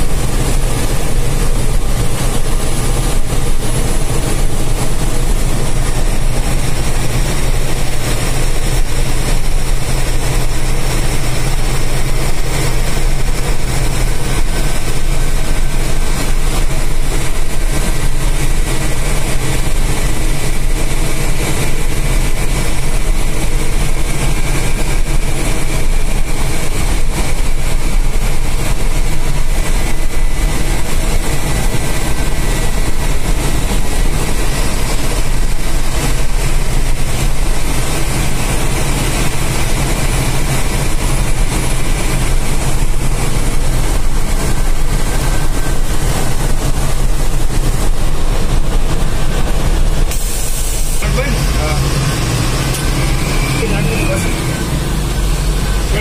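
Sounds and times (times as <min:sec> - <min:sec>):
bus diesel engine running: 0:00.0 - 0:56.0
road and wind noise: 0:00.0 - 0:56.0.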